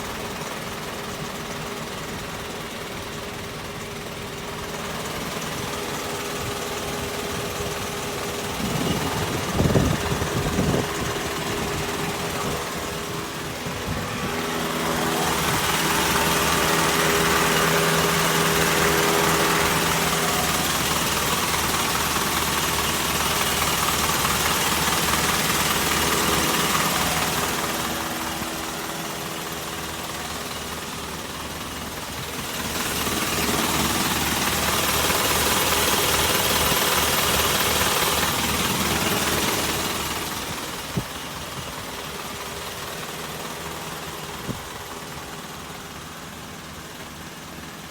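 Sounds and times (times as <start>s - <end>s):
truck engine running: 0.0s - 47.9s.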